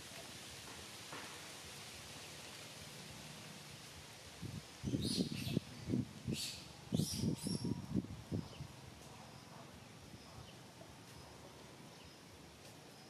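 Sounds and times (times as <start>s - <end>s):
quiet outdoor background: 0.0s - 13.0s.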